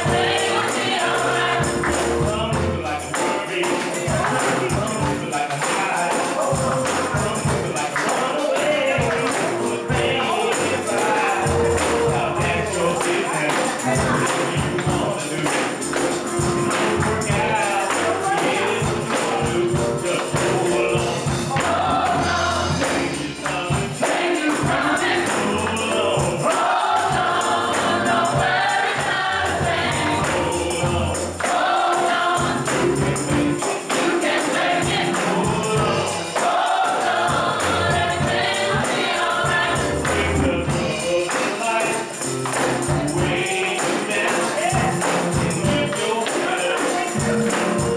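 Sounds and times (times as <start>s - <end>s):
choir singing: 0.0s - 47.9s
tambourine jingling: 0.0s - 47.9s.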